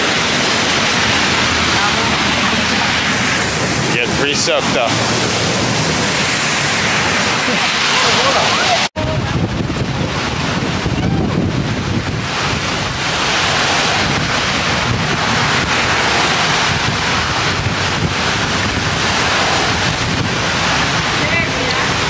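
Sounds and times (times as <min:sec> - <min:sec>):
pouring rain: 0:00.0 - 0:22.0
wind buffeting microphone: 0:00.0 - 0:22.0.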